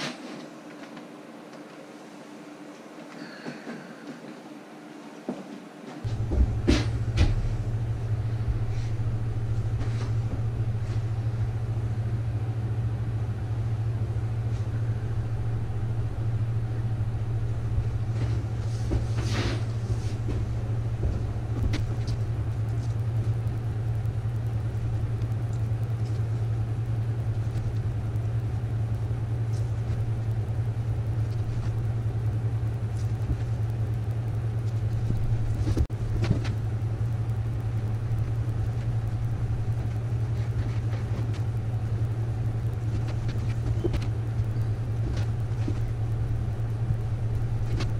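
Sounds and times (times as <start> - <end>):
low machine hum: 0.0 - 47.9.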